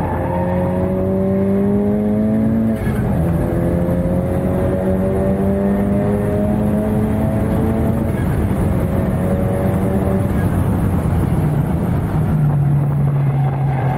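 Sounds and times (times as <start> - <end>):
car engine at full throttle: 0.0 - 13.9.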